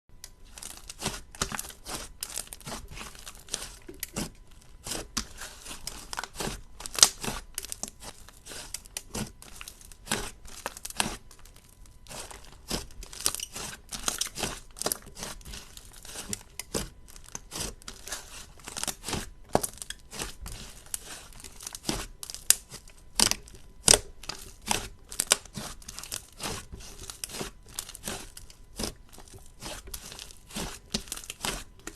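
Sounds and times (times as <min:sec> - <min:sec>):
slime crackling and popping: 0:00.2 - 0:31.9.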